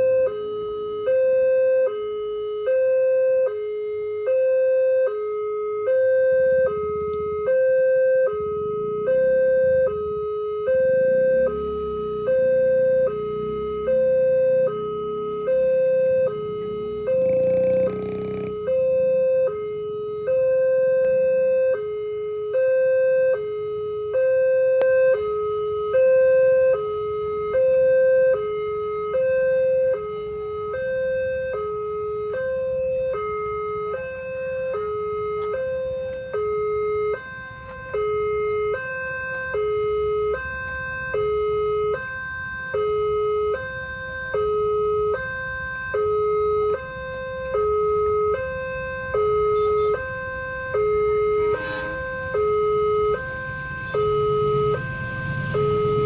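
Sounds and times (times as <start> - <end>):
level crossing two-tone alarm: 0.0 - 56.0.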